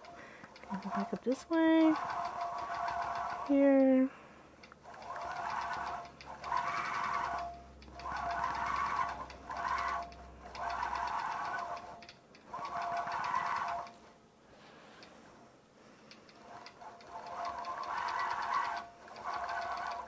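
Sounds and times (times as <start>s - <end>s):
quilting machine needle strokes: 0.0s - 20.0s.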